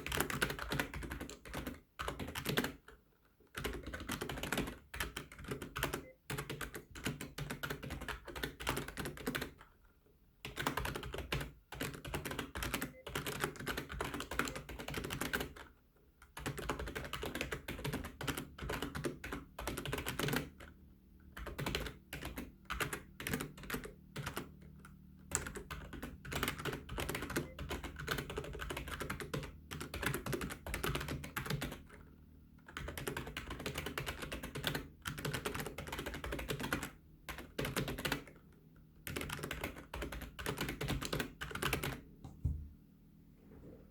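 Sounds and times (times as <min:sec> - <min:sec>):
fast typing on keyboard: 0:00.0 - 0:09.7, 0:10.4 - 0:32.0, 0:32.6 - 0:38.4, 0:39.0 - 0:42.0.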